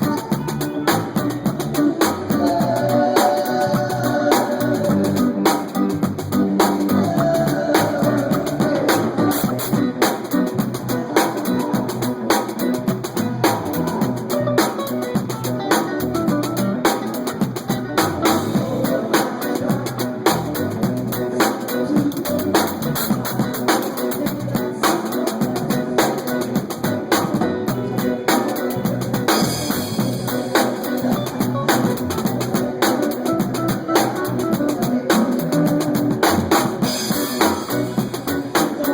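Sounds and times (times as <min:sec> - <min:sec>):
drum kit beat: 0:00.0 - 0:38.9
live band playing dance music: 0:00.0 - 0:38.9.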